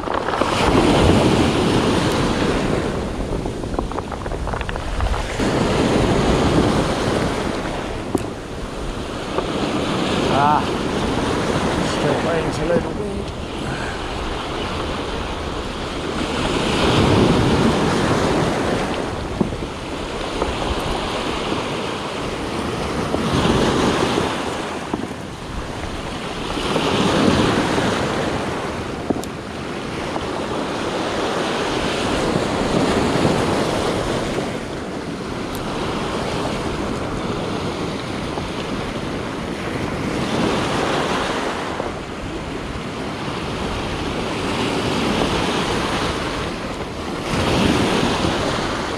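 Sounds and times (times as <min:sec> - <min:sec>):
surf breaking on cobble beach: 0:00.0 - 0:48.9.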